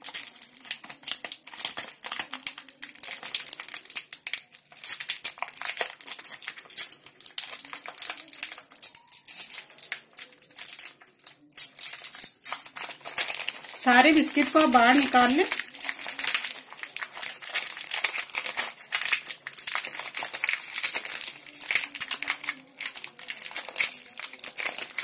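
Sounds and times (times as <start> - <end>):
plastic wrapper crinkling: 0.0 - 25.0.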